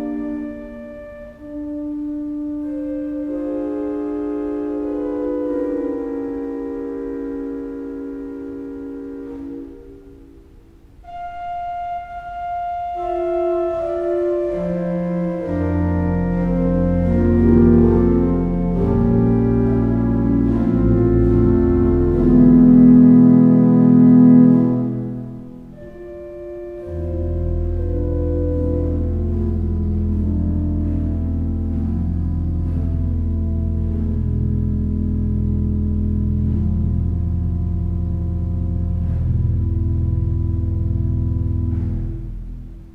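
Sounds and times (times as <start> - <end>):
deep bass note: 0.0 - 42.9
organ playing slow chords: 0.0 - 42.9.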